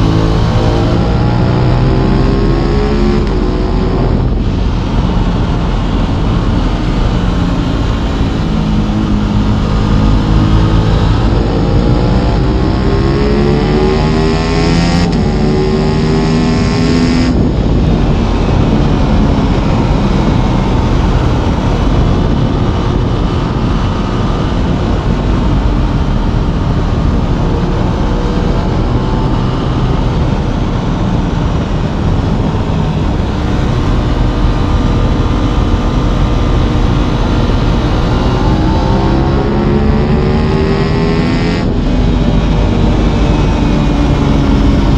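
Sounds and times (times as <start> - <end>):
motorcycle engine accelerating: 0.0 - 44.9
wind noise: 0.0 - 44.9.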